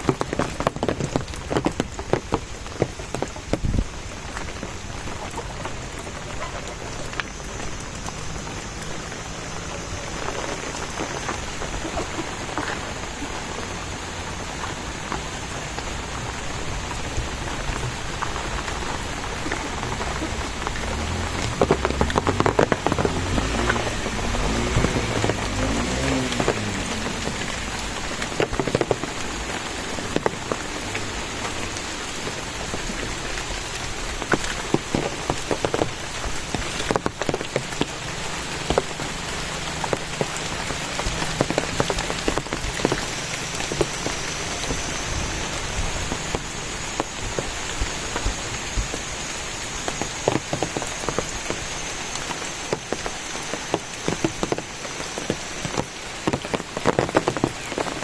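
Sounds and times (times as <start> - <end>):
heavy raindrops tapping: 0.0 - 58.0
steady rain falling: 0.0 - 58.0.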